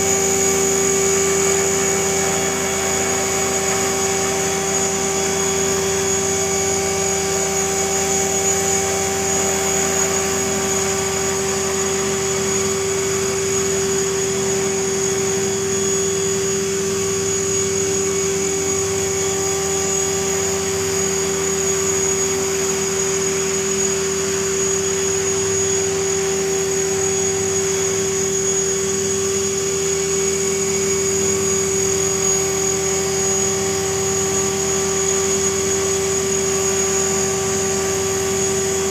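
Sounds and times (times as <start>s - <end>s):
rc helicopter motor whine: 0.0s - 38.9s
rotor blades buzzing: 0.0s - 38.9s.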